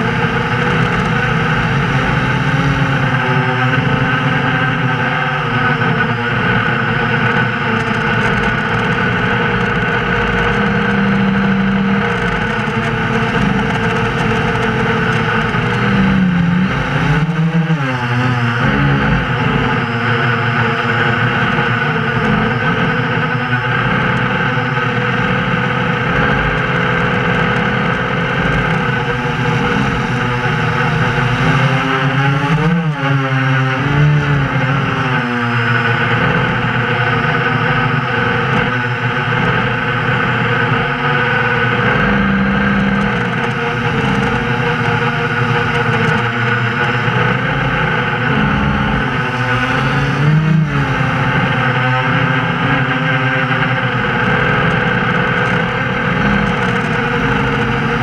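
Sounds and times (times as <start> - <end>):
drone motors and propellers: 0.0 - 58.0.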